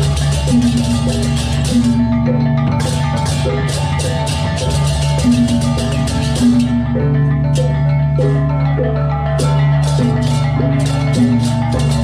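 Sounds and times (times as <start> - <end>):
gamelan playing: 0.0 - 12.0.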